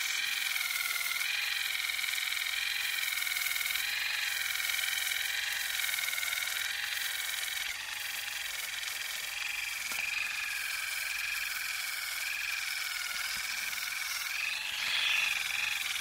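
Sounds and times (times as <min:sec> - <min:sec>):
electric toothbrush buzzing: 0:00.0 - 0:16.0.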